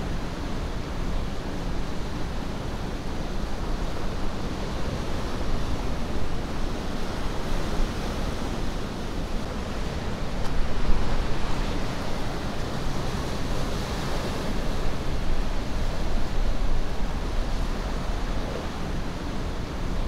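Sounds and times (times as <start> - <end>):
ocean surf: 0.0 - 20.0.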